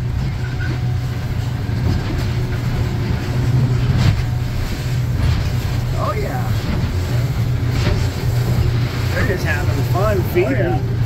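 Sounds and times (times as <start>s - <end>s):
boat engine drone: 0.0s - 11.0s
water rushing along hull: 0.0s - 11.0s.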